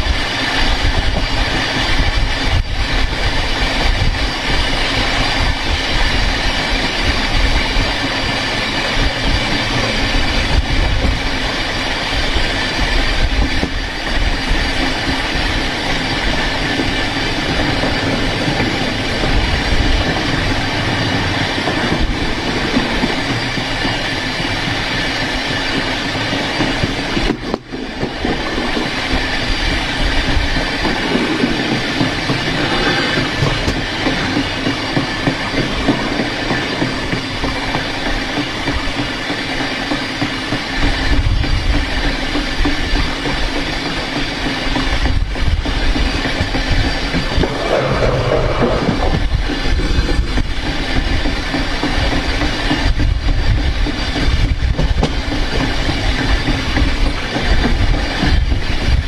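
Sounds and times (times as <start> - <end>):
train wheels rolling on rail: 0.0 - 59.0.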